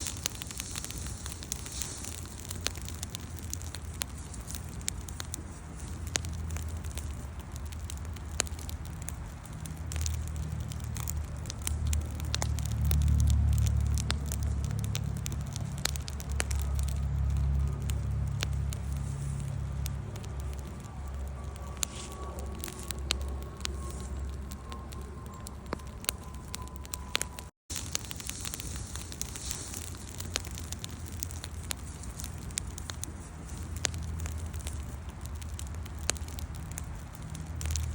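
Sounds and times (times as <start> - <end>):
campfire crackling and popping: 0.0 - 37.9
low rumble: 0.0 - 37.9.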